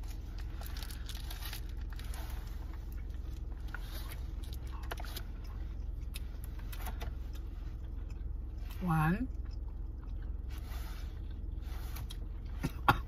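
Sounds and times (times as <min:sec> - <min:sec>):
man chewing: 0:00.0 - 0:13.0
steady low hum: 0:00.0 - 0:13.0.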